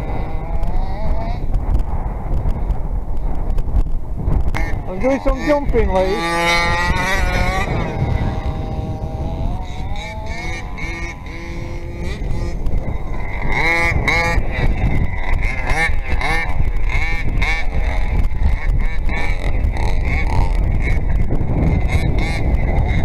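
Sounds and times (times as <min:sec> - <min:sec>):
two-stroke engine revving: 0:00.0 - 0:01.6, 0:04.5 - 0:23.0.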